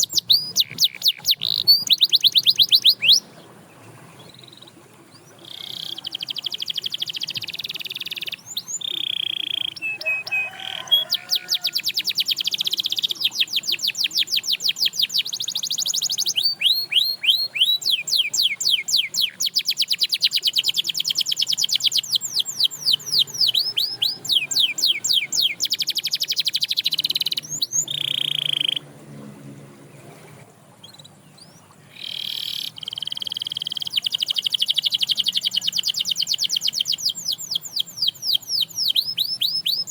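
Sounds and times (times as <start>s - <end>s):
canary singing trills: 0.0s - 28.8s, 30.0s - 39.9s.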